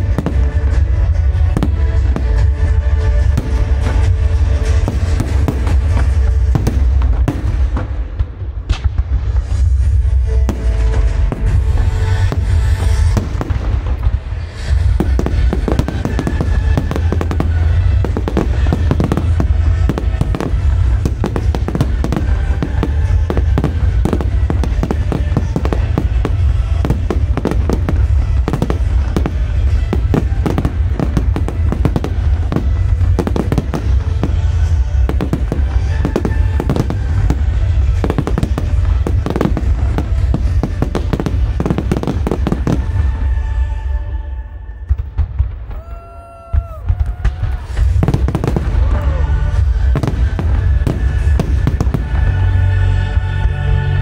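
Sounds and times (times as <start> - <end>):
deep rumble: 0.0 - 45.8, 46.8 - 54.0
fireworks bursting and crackling: 0.0 - 53.0
show music: 0.0 - 54.0.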